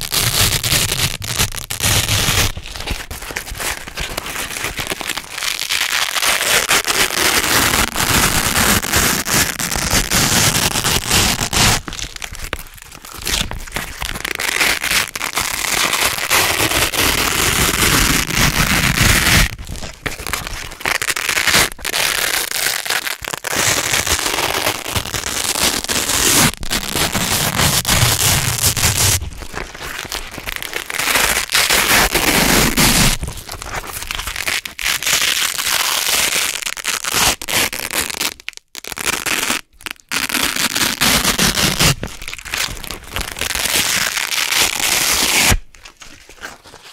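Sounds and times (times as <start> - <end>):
velcro strips ripping apart: 0.0 - 46.9.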